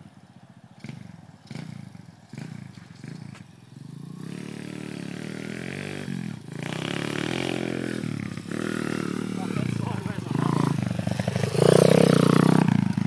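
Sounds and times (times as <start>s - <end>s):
motorbike engine revving: 0.7s - 13.0s.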